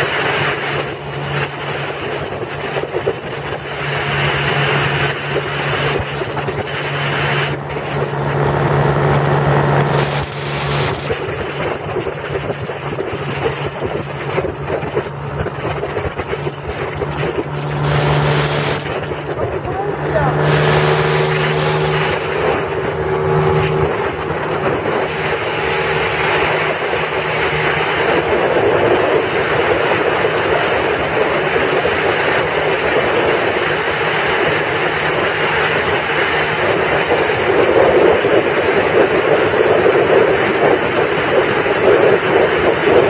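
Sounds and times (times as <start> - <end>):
light aircraft engine drone: 0.0 - 43.0
wind rush on microphone: 0.0 - 43.0.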